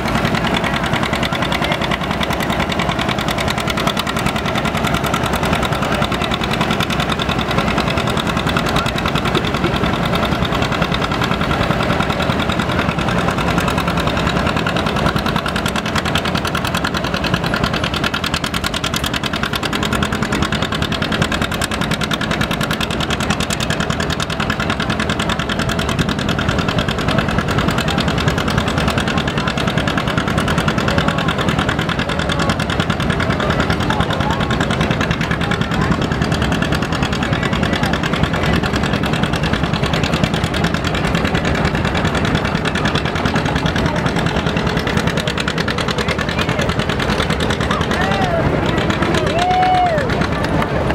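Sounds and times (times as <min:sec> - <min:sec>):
tractor engines idling: 0:00.0 - 0:50.9.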